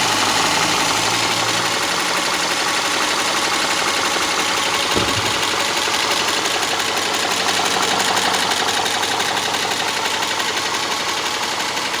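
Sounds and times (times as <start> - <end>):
car engine idling: 1.7 - 12.0.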